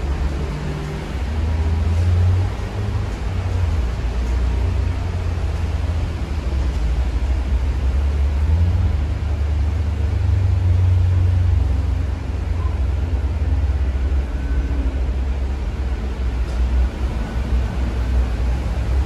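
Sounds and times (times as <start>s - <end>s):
bus cabin rumble: 0.0s - 19.0s.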